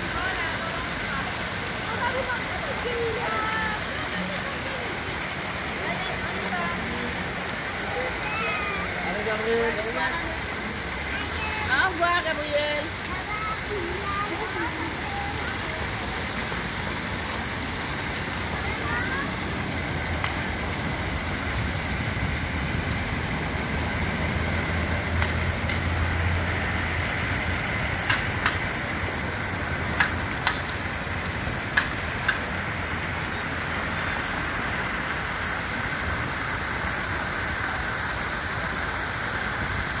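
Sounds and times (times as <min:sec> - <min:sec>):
fountain water splashing: 0:00.0 - 0:40.0
low traffic rumble: 0:00.0 - 0:40.0.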